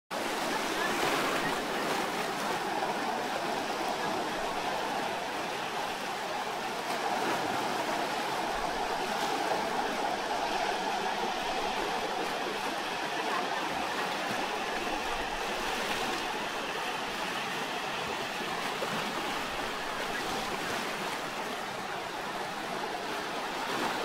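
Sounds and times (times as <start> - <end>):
sea water rushing over rocks: 0.1 - 24.0.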